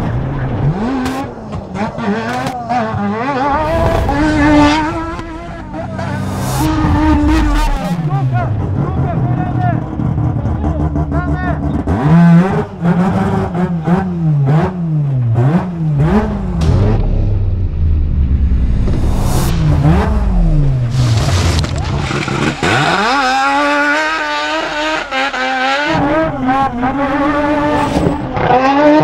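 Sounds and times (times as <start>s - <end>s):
truck engine revving: 0.2s - 29.0s.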